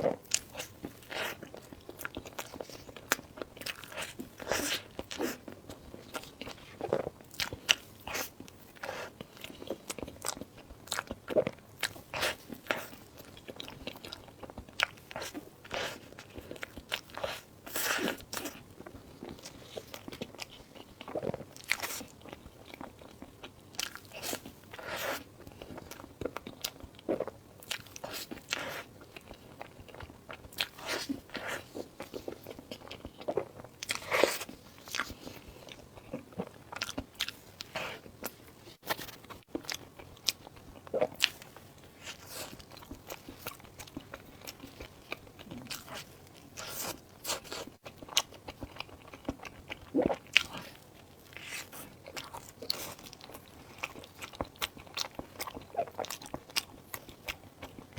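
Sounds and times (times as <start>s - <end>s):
person eating crunchy food: 0.0s - 57.9s.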